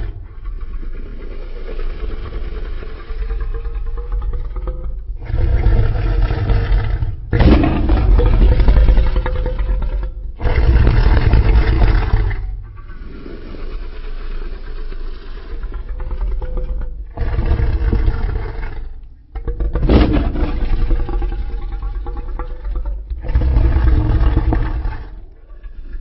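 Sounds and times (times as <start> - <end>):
deep monster roars: 0.0 - 13.7, 15.6 - 25.9
low growl: 0.0 - 26.0.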